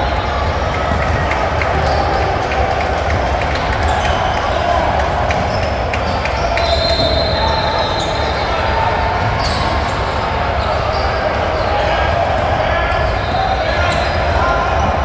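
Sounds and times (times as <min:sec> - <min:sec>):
voices echoing in hall: 0:00.0 - 0:15.0.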